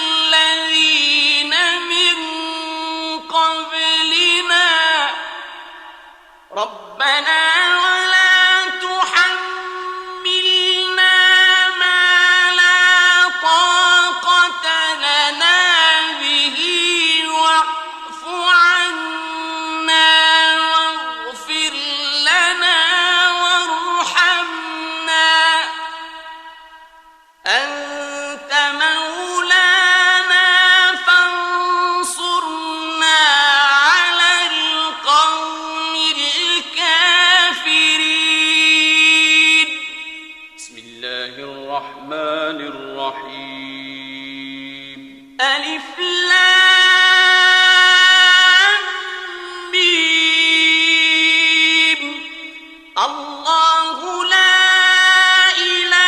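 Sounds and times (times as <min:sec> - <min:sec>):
man chanting melodic recitation: 0:00.0 - 0:05.8, 0:06.5 - 0:26.6, 0:27.4 - 0:56.0.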